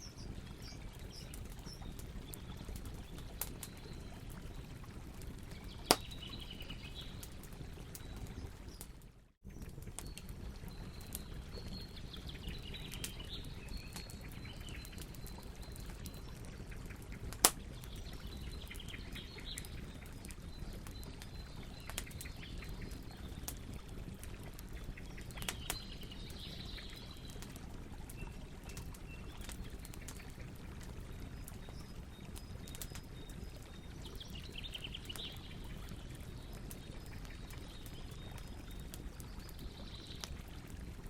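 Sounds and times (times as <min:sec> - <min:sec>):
birds chirping faintly: 0:00.0 - 0:40.9
campfire crackling: 0:00.0 - 0:41.0.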